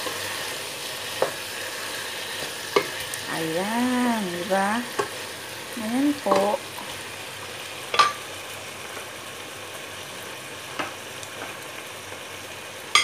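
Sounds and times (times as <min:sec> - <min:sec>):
chicken and vegetables sizzling: 0:00.0 - 0:13.0.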